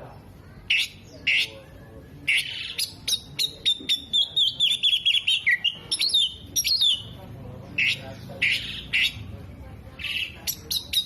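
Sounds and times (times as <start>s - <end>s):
bird singing: 0.0s - 11.0s.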